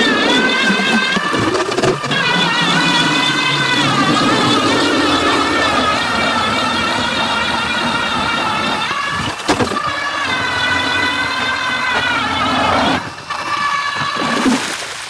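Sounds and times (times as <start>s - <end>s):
ice auger motor whining: 0.0s - 15.0s.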